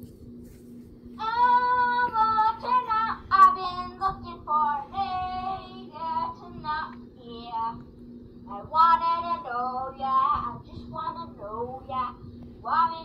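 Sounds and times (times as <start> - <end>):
faint steady hum: 0.0 - 13.0
boy singing through small speaker: 1.2 - 7.8, 8.5 - 13.0.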